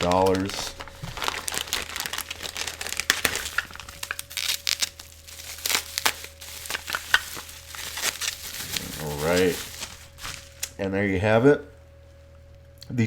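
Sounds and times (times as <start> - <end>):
wrapping crinkling: 0.0 - 10.8.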